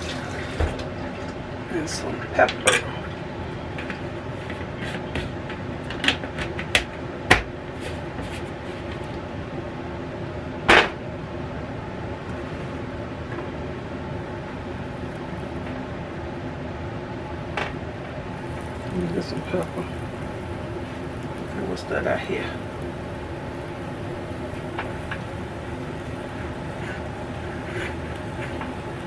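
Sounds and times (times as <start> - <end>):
gas burner hiss: 0.0 - 29.0.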